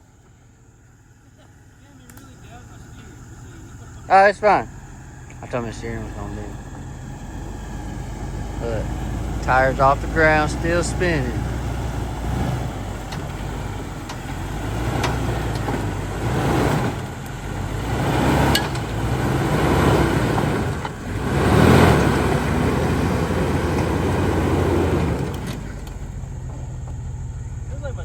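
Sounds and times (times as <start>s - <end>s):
off-road vehicle engine under load: 0.0s - 28.0s.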